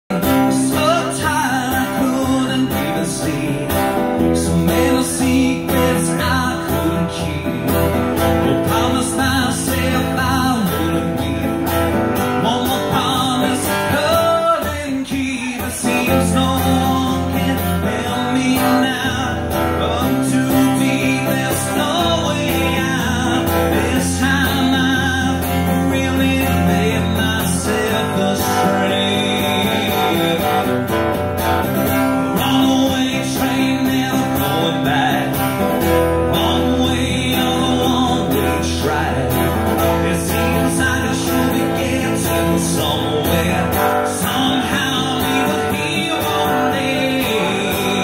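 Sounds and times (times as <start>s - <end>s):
person singing: 0.1s - 31.0s, 31.8s - 48.0s
strummed acoustic guitar: 0.1s - 48.0s.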